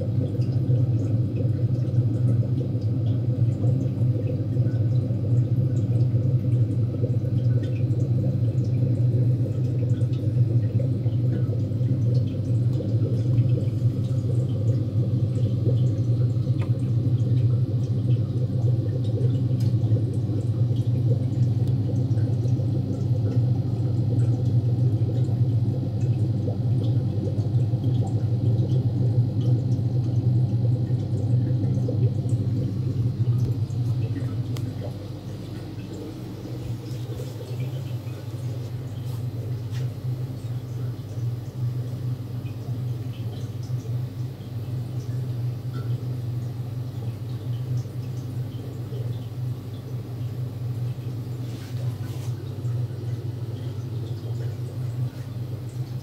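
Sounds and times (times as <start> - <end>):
drip-like ticks: 0.0 - 51.4, 52.0 - 56.0
aquarium pump humming: 0.0 - 56.0
water trickling: 0.0 - 56.0.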